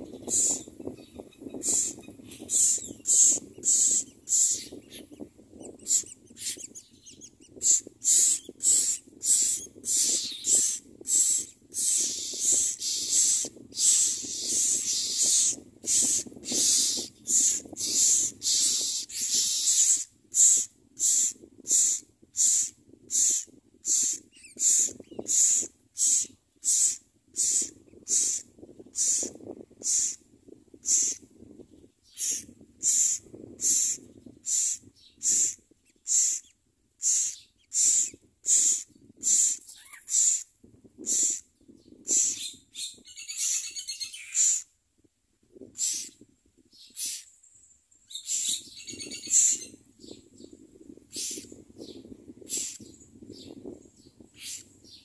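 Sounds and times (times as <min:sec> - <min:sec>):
nestlings begging with harsh rasps: 0:00.0 - 0:30.2, 0:30.8 - 0:31.2, 0:32.0 - 0:44.7, 0:45.7 - 0:46.2, 0:46.8 - 0:47.3, 0:48.1 - 0:53.6, 0:54.3 - 0:55.0.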